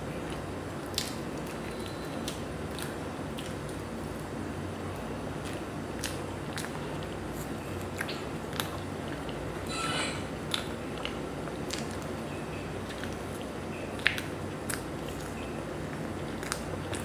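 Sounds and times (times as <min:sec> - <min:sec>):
cake squishing: 0:00.1 - 0:17.0.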